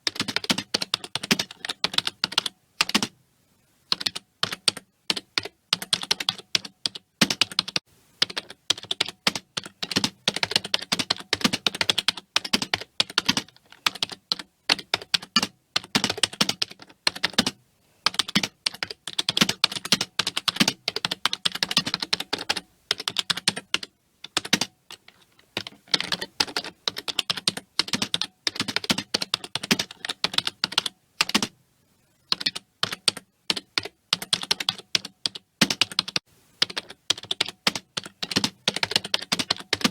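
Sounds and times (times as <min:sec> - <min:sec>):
typing on computer keyboard: 0:00.0 - 0:03.1, 0:03.9 - 0:31.6, 0:32.3 - 0:39.9.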